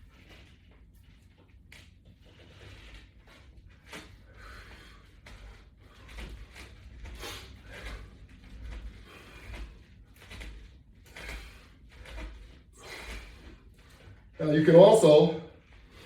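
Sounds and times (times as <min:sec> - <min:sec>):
resistance band swishing and creaking: 0:00.0 - 0:16.0.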